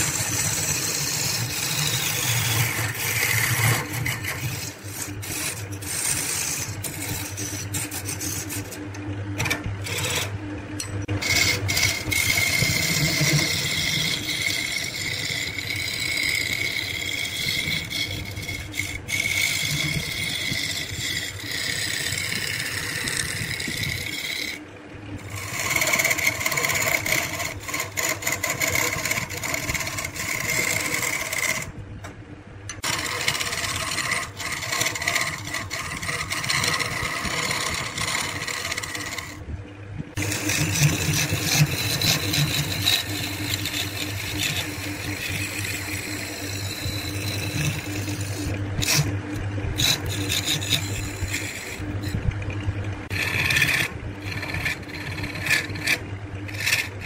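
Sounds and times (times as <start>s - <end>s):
chisel cutting wood on lathe: 0.0s - 10.4s, 11.1s - 24.6s, 25.2s - 31.7s, 32.8s - 39.4s, 40.1s - 52.2s, 53.0s - 57.0s.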